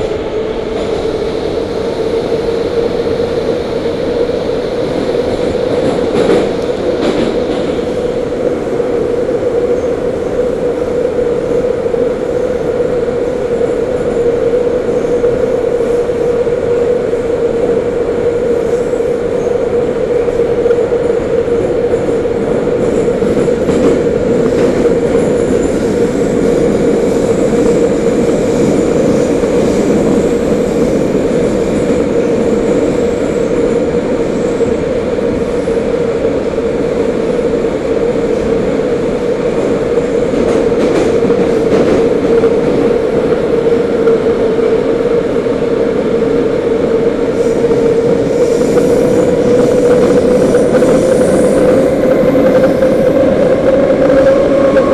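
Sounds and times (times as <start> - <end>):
train running noise inside car: 0.0 - 54.9.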